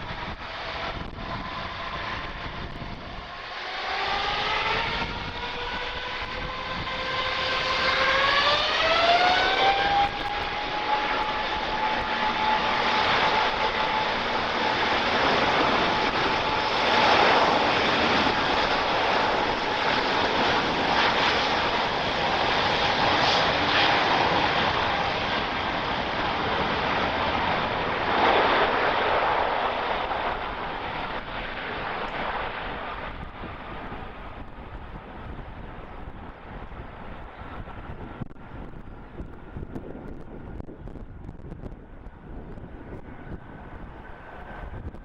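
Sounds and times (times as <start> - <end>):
loud jet roar: 0.0 - 41.6
jet engine whine rising: 0.0 - 45.0.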